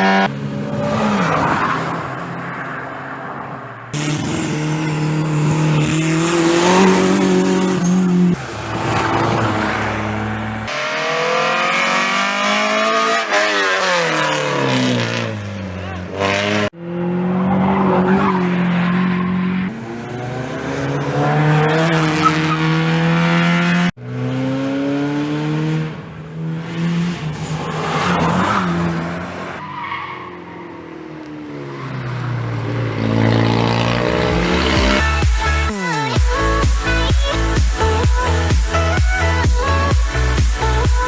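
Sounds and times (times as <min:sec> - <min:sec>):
car engines revving: 0:00.0 - 0:35.7.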